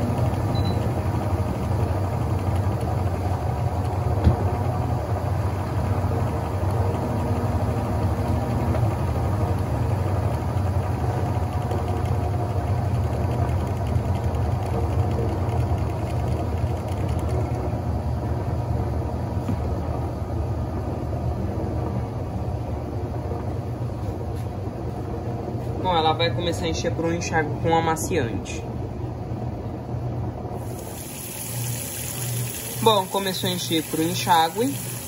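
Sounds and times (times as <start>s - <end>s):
washing machine spinning: 0.0s - 35.0s.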